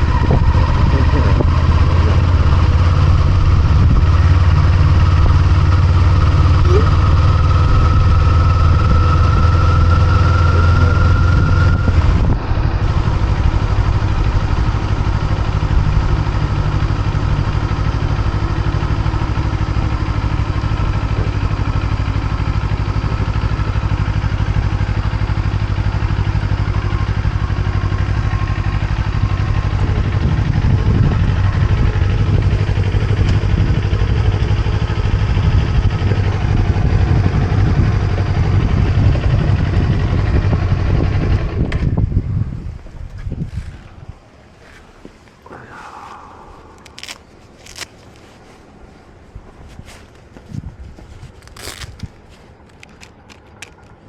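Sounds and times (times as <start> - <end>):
motorcycle engine running: 0.0 - 45.3.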